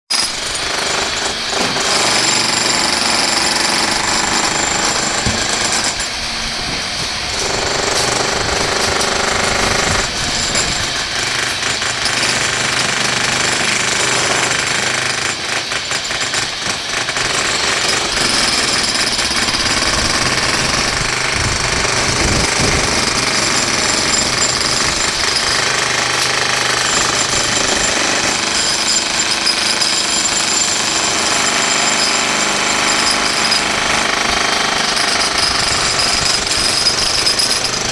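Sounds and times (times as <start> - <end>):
demolition breaker hammering: 0.2 - 37.9.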